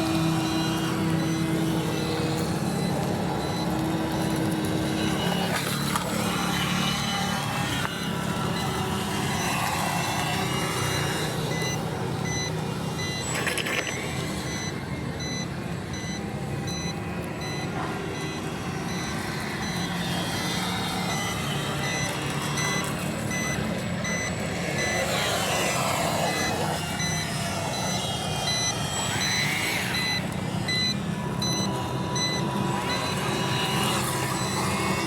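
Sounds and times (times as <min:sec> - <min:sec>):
low motor drone with whines: 0:00.0 - 0:35.0
repeating electronic beep: 0:00.1 - 0:35.0.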